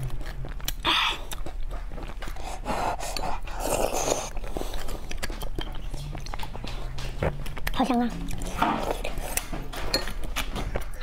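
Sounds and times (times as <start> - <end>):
wet slurping and chewing: 0.0 - 11.0.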